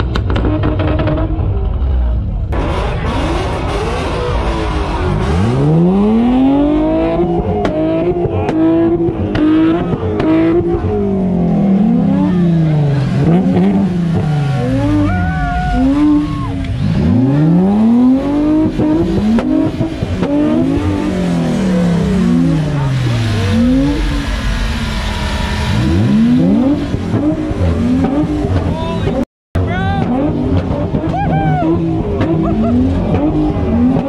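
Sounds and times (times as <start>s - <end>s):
motorcycle engine revving: 0.0s - 29.2s.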